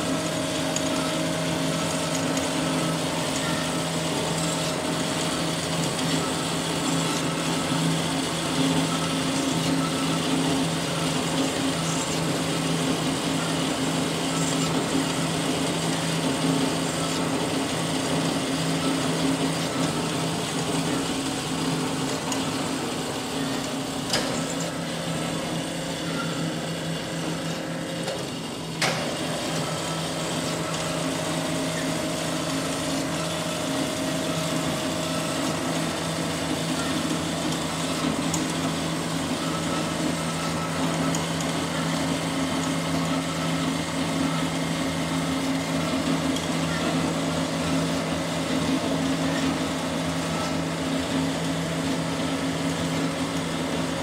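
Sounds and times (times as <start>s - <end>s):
bandsaw humming: 0.0s - 54.0s.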